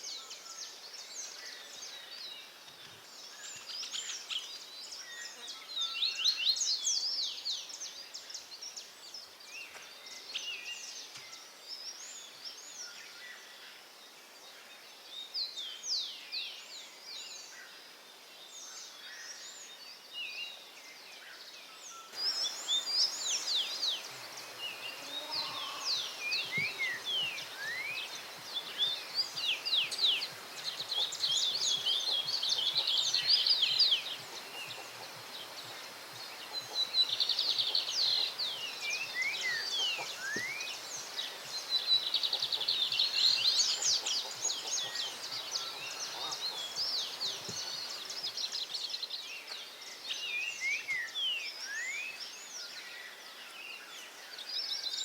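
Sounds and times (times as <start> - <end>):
songbirds singing and chirping: 0.0 - 55.0
steady background hiss: 0.0 - 55.0.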